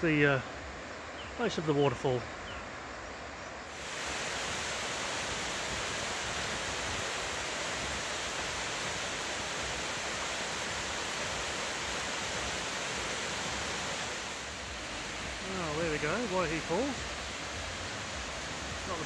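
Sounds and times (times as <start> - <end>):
waterfall pouring into pool: 3.7 - 19.0.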